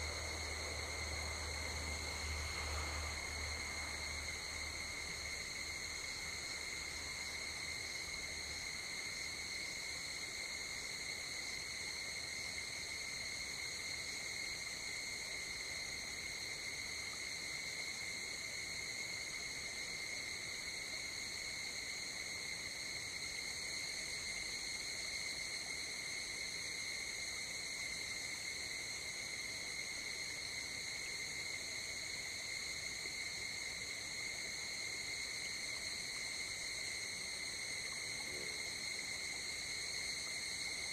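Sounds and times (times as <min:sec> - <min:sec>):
crickets trilling: 0:00.0 - 0:40.9
faint steady hiss: 0:00.0 - 0:40.9.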